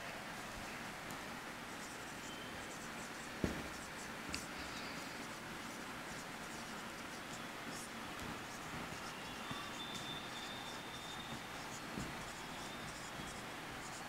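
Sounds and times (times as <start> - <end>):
marker pen writing on whiteboard: 1.7 - 14.0.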